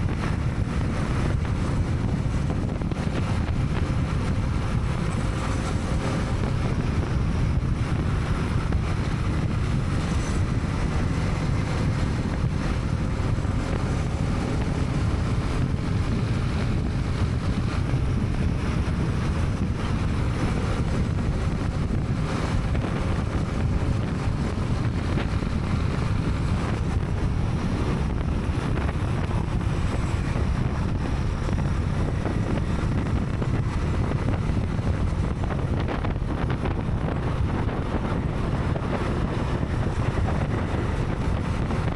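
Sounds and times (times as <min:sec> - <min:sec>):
motorcycle engine cruising: 0:00.0 - 0:41.9
wind on camera microphone: 0:00.0 - 0:41.9.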